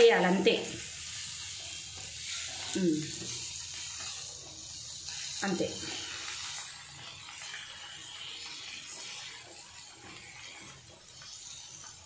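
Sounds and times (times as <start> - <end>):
eggs and onions sizzling: 0.0 - 12.0
steel spoon scraping a pan: 0.8 - 12.0.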